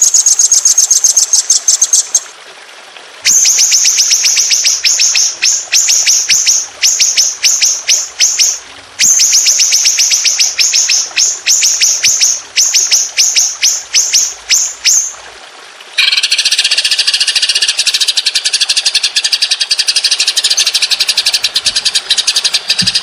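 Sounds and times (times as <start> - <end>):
songbird singing: 0.0 - 2.3, 3.2 - 15.1, 16.0 - 23.0.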